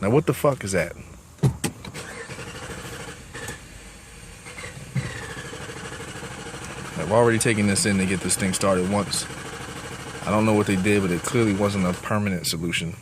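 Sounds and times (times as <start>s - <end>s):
car engine cranking: 1.7s - 12.3s.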